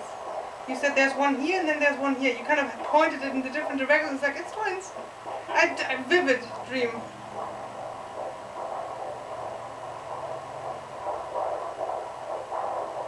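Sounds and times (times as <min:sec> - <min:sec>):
fetal doppler heartbeat whooshing: 0:00.0 - 0:13.0.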